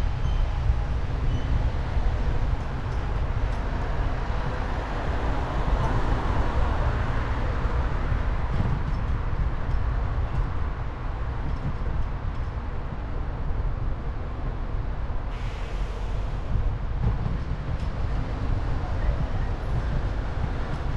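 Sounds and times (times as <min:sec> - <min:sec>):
street traffic: 0:00.0 - 0:20.9
wind rumbling on microphone: 0:00.0 - 0:20.9.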